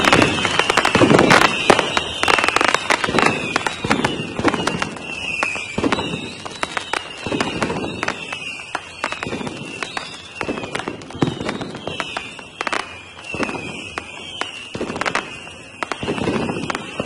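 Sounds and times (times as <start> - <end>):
fireworks crackling and popping: 0.0 - 17.0
high wavering whistle: 0.0 - 17.0.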